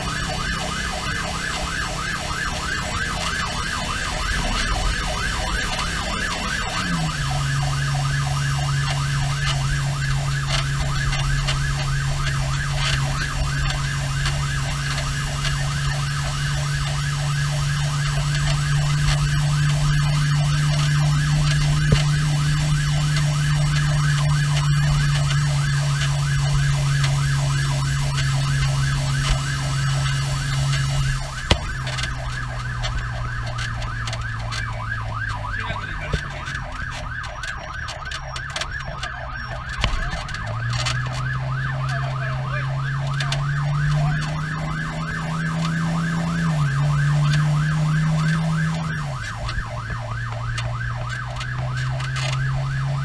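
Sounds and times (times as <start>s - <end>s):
diesel engine drone: 0.0s - 53.0s
fire engine siren yelping: 0.0s - 53.0s.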